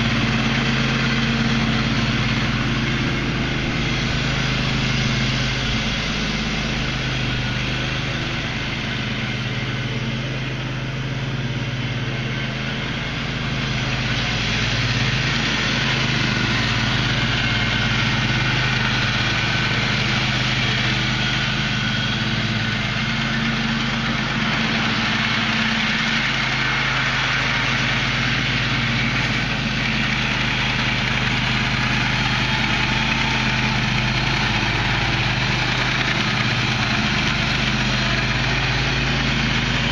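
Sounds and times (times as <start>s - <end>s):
riding lawn mower engine running: 0.0s - 39.9s.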